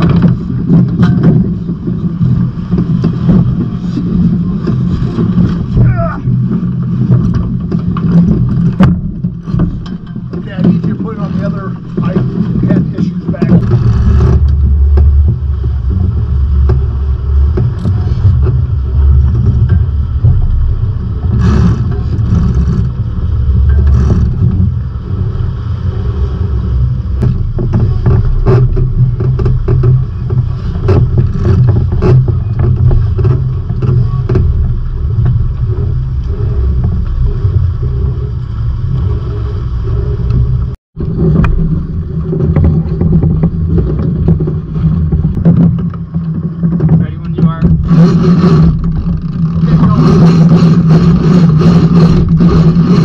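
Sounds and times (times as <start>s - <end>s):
clicks and knocks from boat: 0.0s - 53.0s
water rushing past hulls: 0.0s - 53.0s
wind buffeting microphone: 0.0s - 53.0s.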